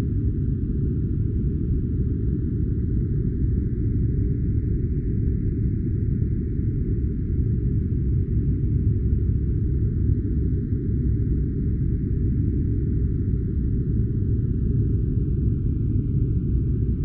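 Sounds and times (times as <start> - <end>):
muffled deep rumble-hiss noise: 0.0 - 17.0.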